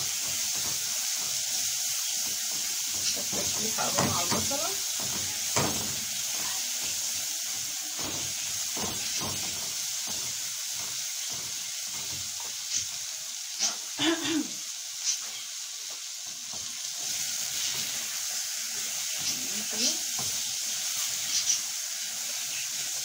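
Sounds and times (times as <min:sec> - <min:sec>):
chickpeas sizzling in oil: 0:00.0 - 0:23.0.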